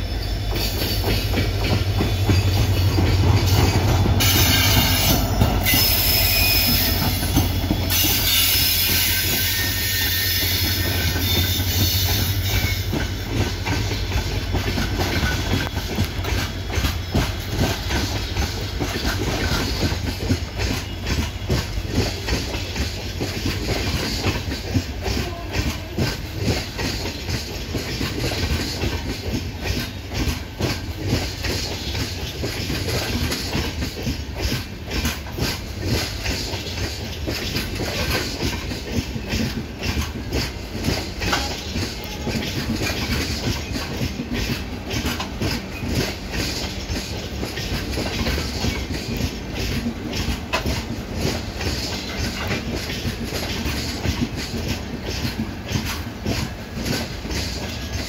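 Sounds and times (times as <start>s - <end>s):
diesel locomotive engine passing: 0.0s - 58.0s
train wheels clickety-clack: 0.0s - 58.0s.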